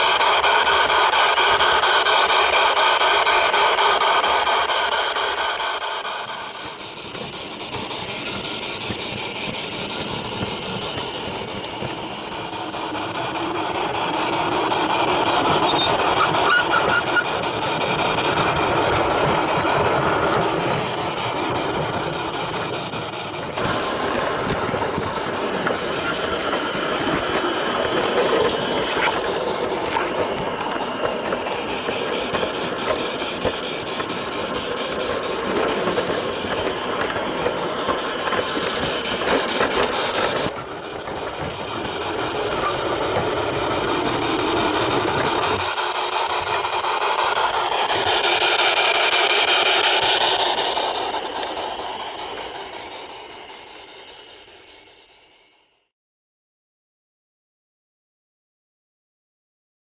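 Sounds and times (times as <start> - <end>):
wheels clicking over rails: 0.0 - 55.7
model train running: 0.0 - 55.9.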